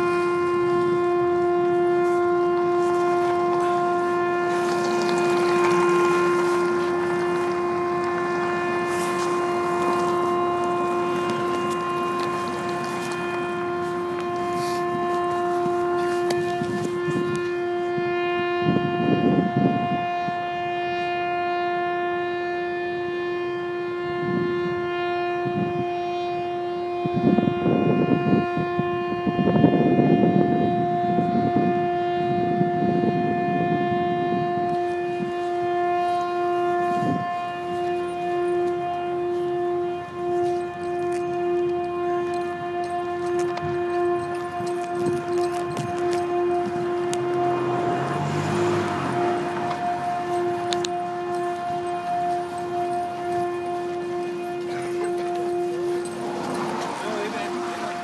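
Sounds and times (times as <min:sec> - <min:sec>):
horn-like droning tone: 0:00.0 - 0:58.0.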